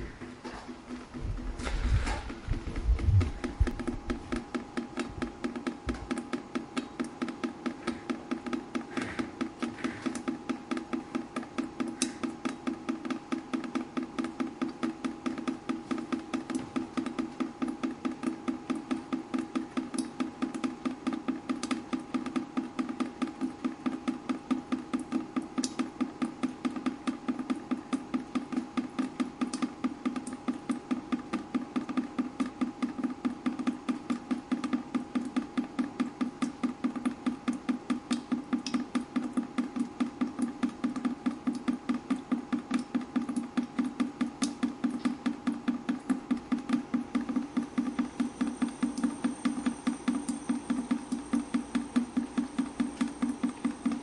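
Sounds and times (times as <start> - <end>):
water dripping: 2.6 - 54.0.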